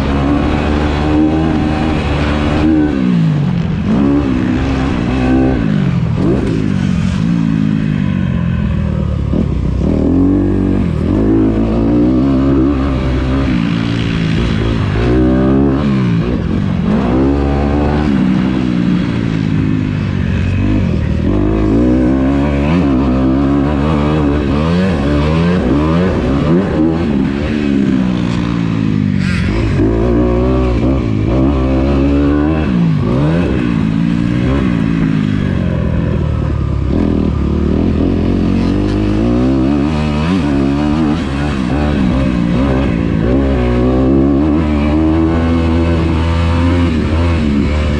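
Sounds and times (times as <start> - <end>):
dirt bike engine revving: 0.0 - 36.2, 36.8 - 47.9.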